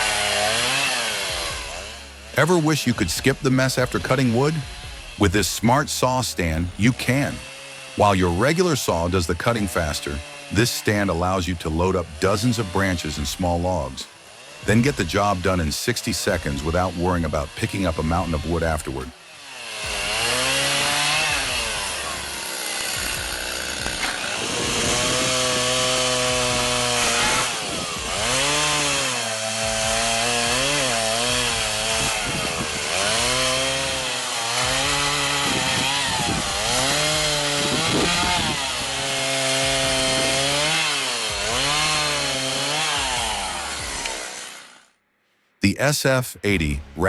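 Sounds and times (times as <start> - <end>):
chainsaw cutting branches: 0.0 - 45.0.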